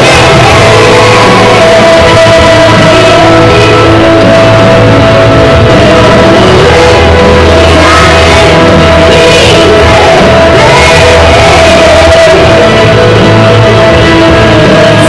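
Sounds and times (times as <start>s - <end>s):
children singing: 0.0s - 15.0s
instrumental accompaniment: 0.0s - 15.0s.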